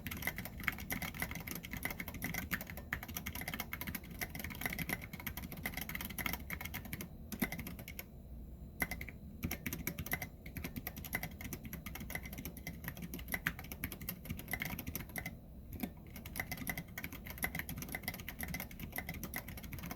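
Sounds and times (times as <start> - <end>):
typing on mechanical keyboard: 0.0 - 8.1, 8.8 - 19.9.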